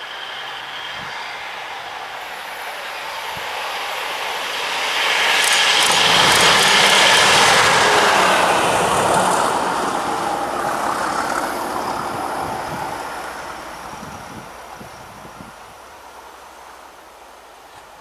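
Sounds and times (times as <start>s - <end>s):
diesel locomotive passing: 0.0s - 18.0s.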